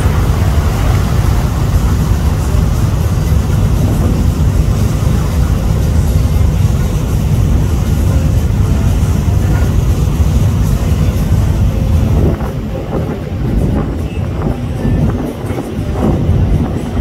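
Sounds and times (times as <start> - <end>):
ship engine low rumble: 0.0 - 17.0
wind on microphone: 0.0 - 17.0.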